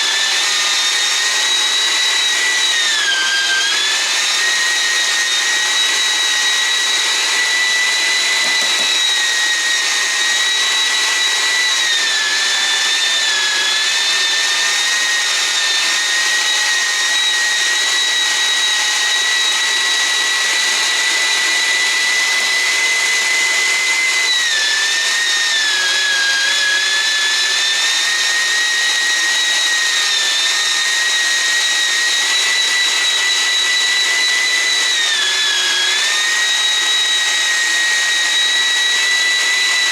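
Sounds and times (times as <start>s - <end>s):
meat grinder motor whine: 0.0s - 39.9s.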